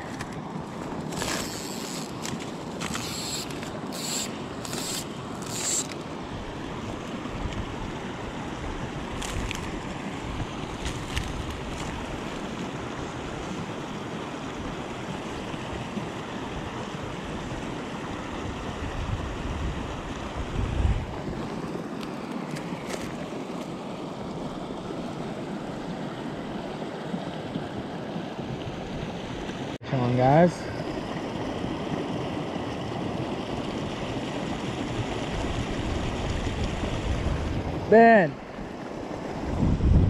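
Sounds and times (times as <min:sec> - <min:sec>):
creek water splashing over rocks: 0:00.0 - 0:20.5, 0:21.1 - 0:39.6.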